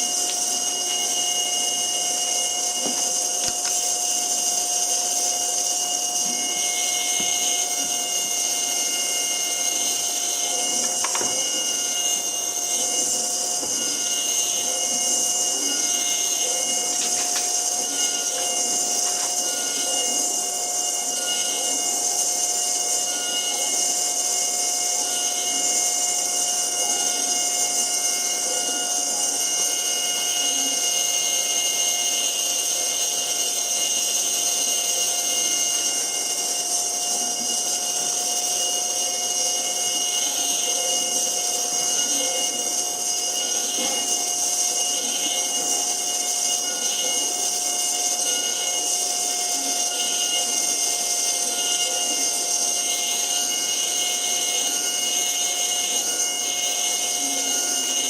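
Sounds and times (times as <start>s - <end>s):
cnc spindle high whine: 0.0s - 58.0s.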